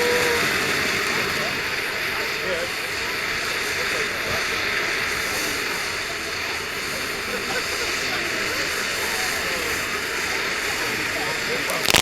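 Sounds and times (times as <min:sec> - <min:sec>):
fountain firework hissing: 0:00.0 - 0:12.0.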